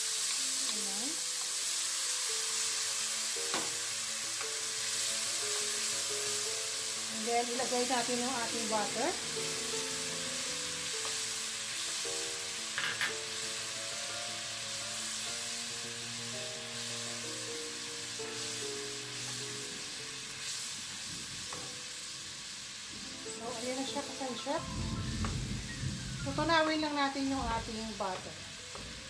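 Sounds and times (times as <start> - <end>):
sauce sizzling in hot oil: 0.0 - 29.0.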